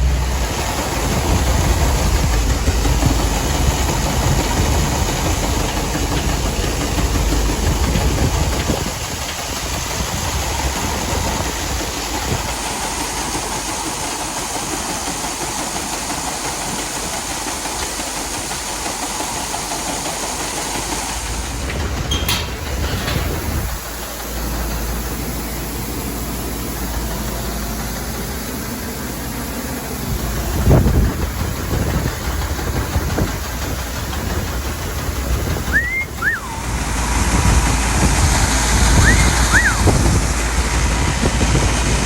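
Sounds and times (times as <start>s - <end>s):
farm machinery engine rumble: 0.0s - 42.0s.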